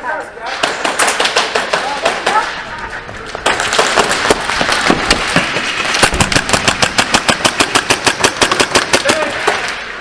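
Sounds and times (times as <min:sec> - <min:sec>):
airsoft guns firing: 0:00.6 - 0:09.7.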